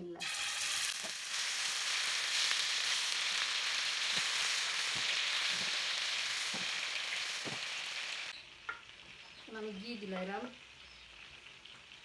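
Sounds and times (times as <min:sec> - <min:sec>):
chicken sizzling in hot oil: 0:00.2 - 0:12.0.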